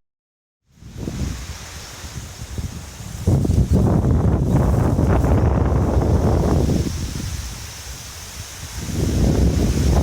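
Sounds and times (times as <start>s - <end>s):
wind buffeting microphone: 0.7s - 10.0s.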